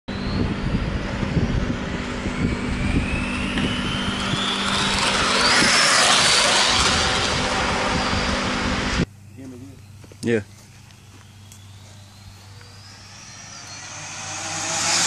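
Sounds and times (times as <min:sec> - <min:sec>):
rc car motor whine: 0:00.1 - 0:09.1, 0:10.8 - 0:15.0
rush of air and tyre noise: 0:00.1 - 0:09.1, 0:11.8 - 0:15.0
steady low rumble: 0:00.1 - 0:15.0.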